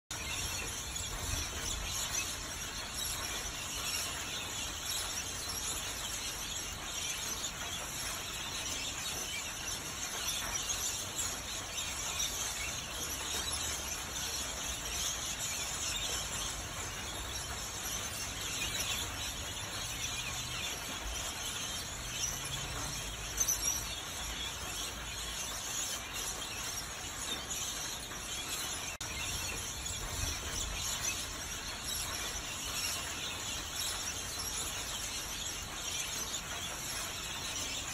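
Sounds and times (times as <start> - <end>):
parrots screeching and chattering: 0.1 - 37.9
rain hissing: 0.2 - 37.9.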